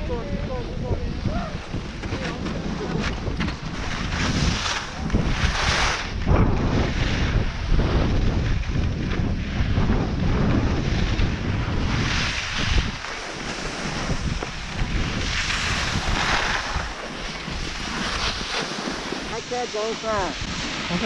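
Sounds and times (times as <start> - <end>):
wind buffeting microphone: 0.0 - 21.0
ski edges scraping snow: 1.6 - 21.0.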